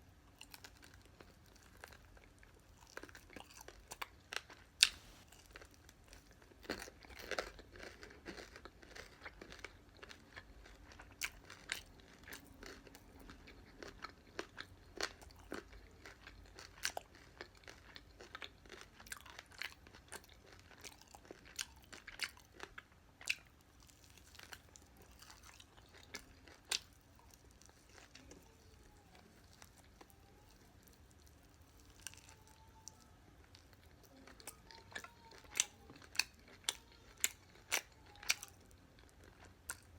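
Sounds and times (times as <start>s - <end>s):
crunchy chewing of fried chicken: 0.1s - 39.9s.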